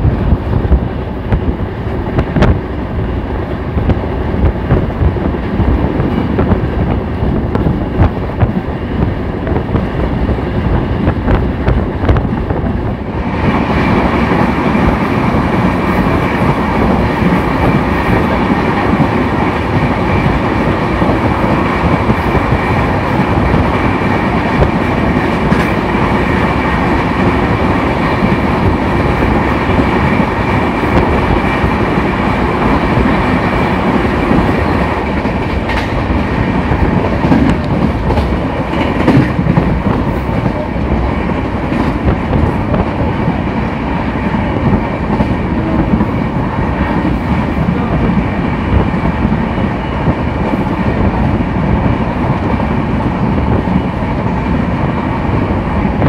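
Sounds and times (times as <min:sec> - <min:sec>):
train wheels clattering on track: 0:00.0 - 0:56.0.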